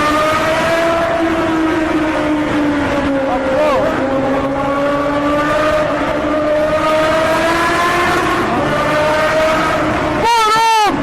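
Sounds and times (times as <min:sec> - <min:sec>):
motorcycle engine accelerating: 0:00.0 - 0:10.2.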